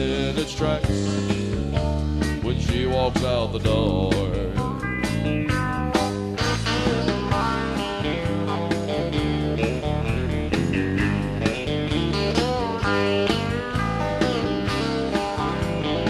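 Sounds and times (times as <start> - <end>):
bass: 0.0 - 16.0
electric guitar: 0.0 - 16.0.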